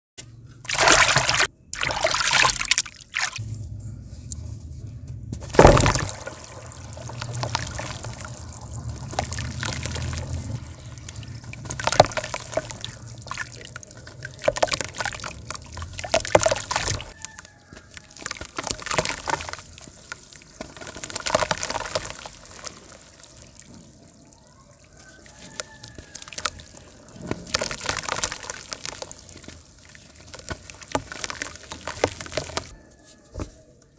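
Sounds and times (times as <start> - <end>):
hands sloshing water in tub: 0.6 - 3.4, 5.5 - 17.2, 17.8 - 32.7
mud splashing into water: 0.6 - 3.4, 5.4 - 32.7.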